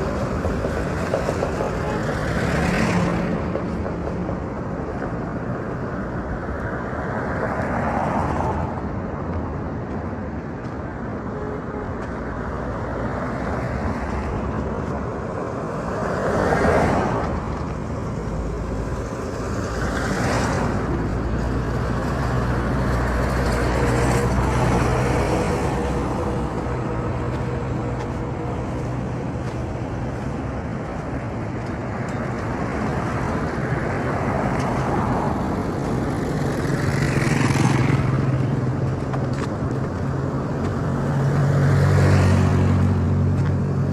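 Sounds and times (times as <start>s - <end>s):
road traffic rumble: 0.0s - 43.9s.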